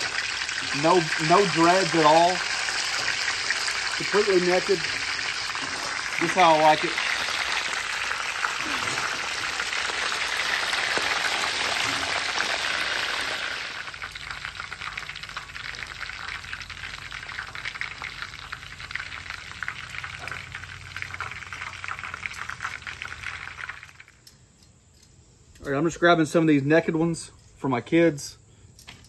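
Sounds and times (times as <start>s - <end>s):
wings deep-frying in oil: 0.0s - 24.4s.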